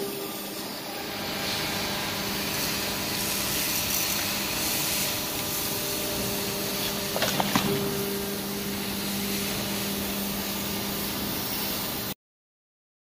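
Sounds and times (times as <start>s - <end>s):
hydraulic press hum and hiss: 0.0s - 12.2s.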